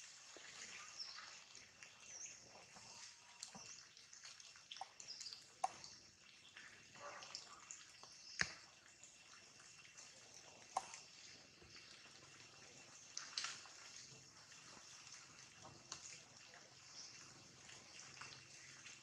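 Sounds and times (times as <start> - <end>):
water dripping from leaves: 0.0 - 19.0.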